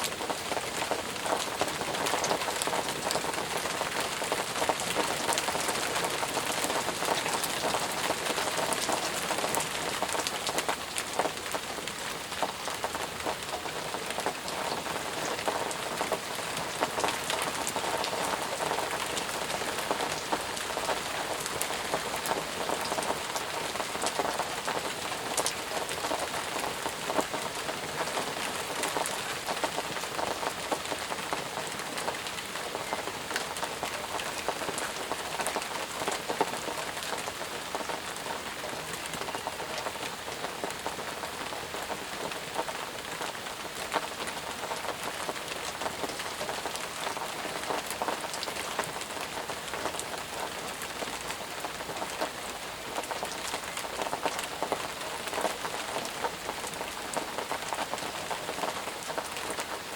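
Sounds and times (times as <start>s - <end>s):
heavy rain falling: 0.0s - 59.9s
raindrops pattering on surfaces: 0.0s - 59.9s.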